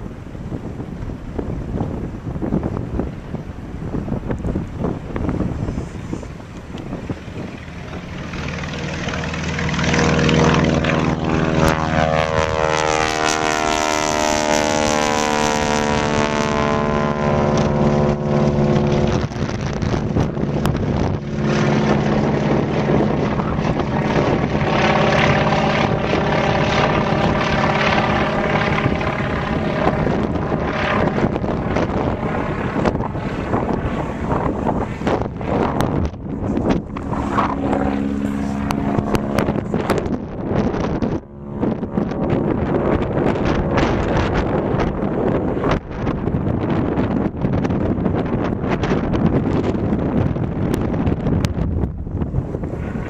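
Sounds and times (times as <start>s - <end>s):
biplane engine and propeller: 0.0s - 53.0s.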